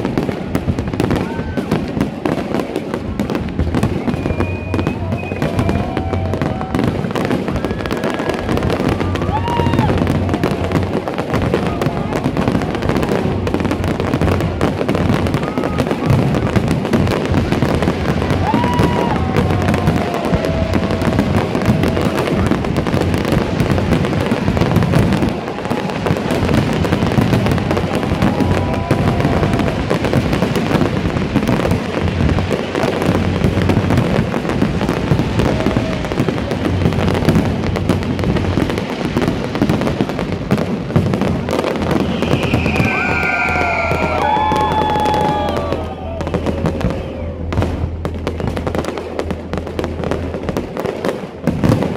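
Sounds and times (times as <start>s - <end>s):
fireworks banging and crackling: 0.0s - 51.9s.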